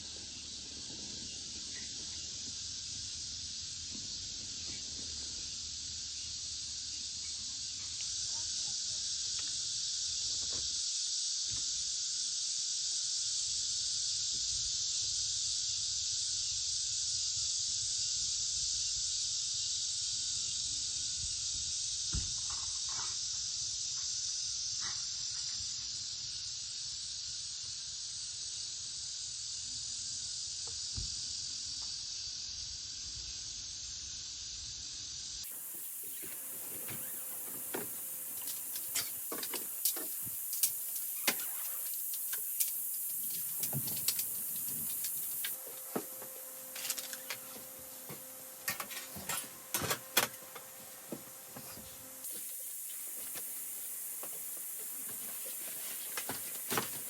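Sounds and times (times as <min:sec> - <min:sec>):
night insects chorus: 0:00.0 - 0:57.0.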